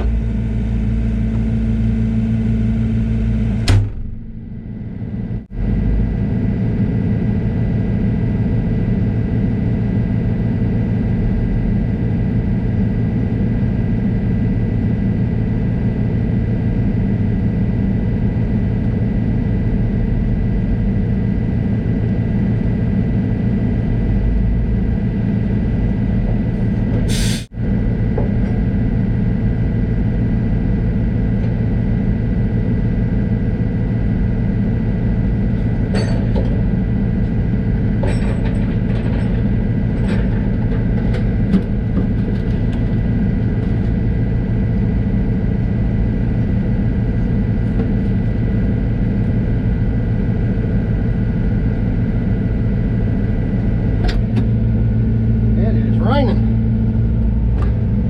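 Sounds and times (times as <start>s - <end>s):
diesel engine running: 0.0s - 15.8s, 16.5s - 58.0s.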